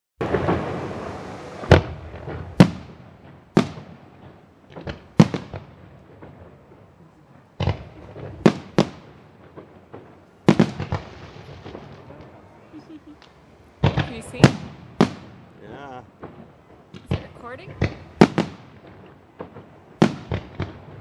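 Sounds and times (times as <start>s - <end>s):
fireworks bangs echoing: 0.2s - 21.0s.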